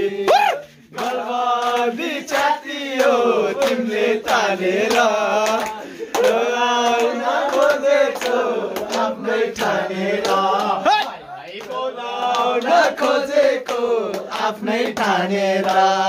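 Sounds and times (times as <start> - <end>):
men singing together: 0.0 - 16.0
hands clapping along: 0.2 - 16.0.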